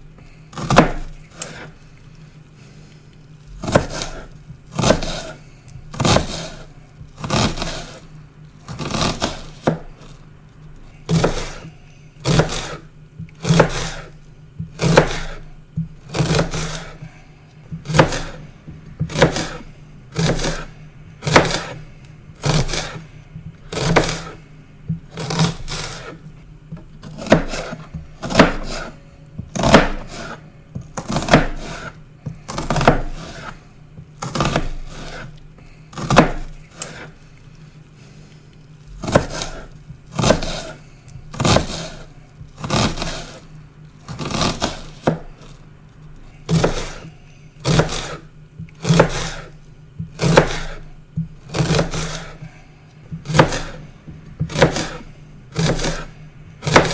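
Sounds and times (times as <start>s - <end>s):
knife chopping onion on cutting board: 0.5s - 1.8s, 3.6s - 8.0s, 8.7s - 10.1s, 11.0s - 37.2s, 39.0s - 43.5s, 44.1s - 45.5s, 46.4s - 56.9s.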